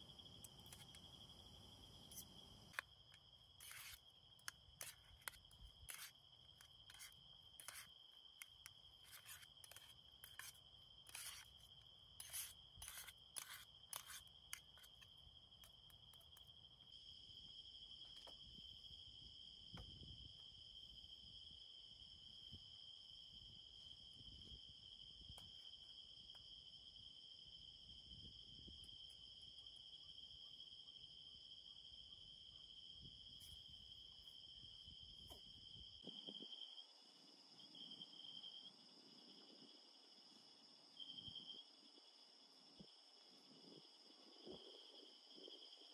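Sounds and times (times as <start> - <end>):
night insects trilling: 0.0 - 45.9.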